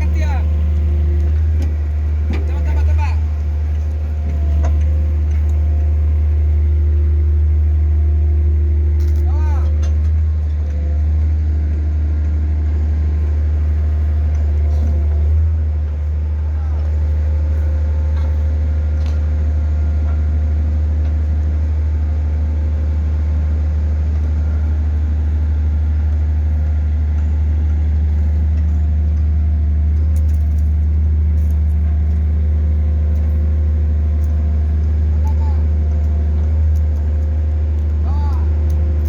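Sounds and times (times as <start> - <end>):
pile driver engine droning: 0.0 - 39.0.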